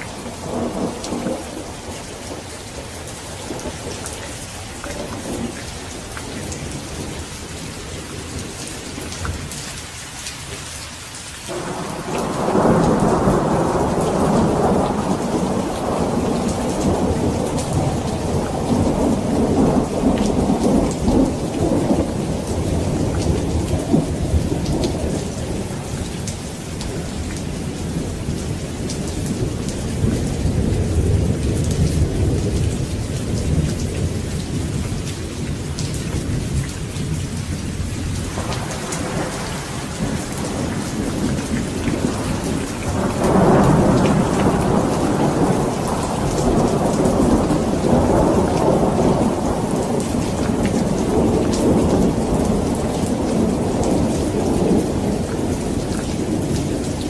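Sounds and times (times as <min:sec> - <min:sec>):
rolling thunder: 0:00.0 - 0:09.5, 0:11.5 - 0:57.0
heavy rain: 0:00.0 - 0:57.0.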